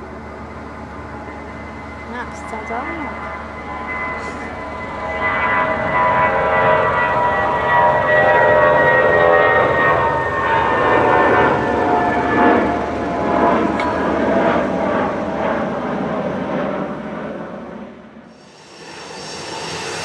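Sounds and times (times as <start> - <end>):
jet engines passing by: 0.0 - 20.0.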